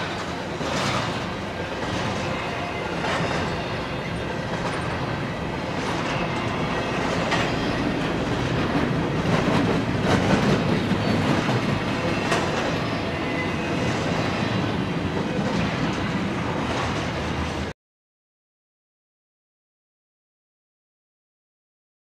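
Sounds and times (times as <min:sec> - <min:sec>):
freight cars rumbling on rails: 0:00.0 - 0:17.7.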